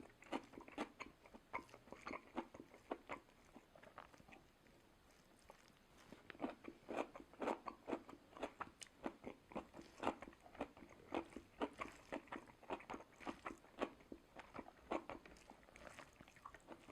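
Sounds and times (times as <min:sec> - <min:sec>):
person chewing crunchy food: 0:00.0 - 0:16.9.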